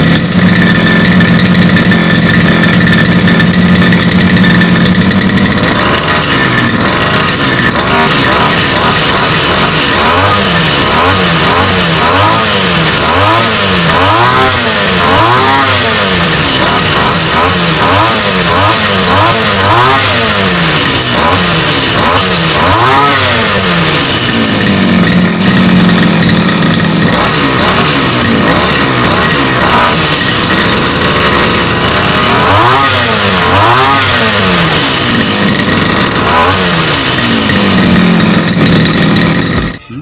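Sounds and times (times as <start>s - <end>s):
brush cutter engine revving: 0.0s - 40.0s.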